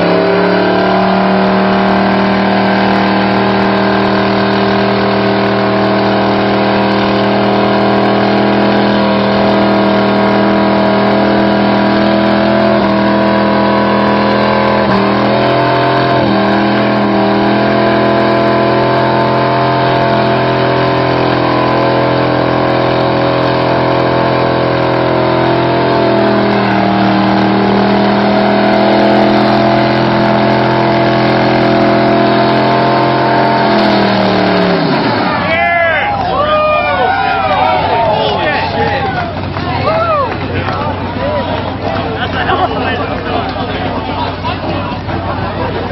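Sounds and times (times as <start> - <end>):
pickup engine at high revs: 0.0 - 45.9
tires spinning on pavement: 0.0 - 45.9.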